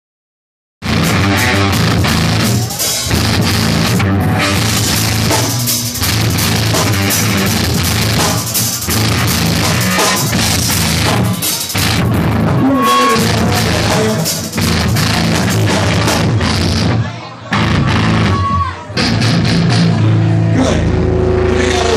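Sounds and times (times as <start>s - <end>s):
live rock band playing: 0.8s - 21.9s.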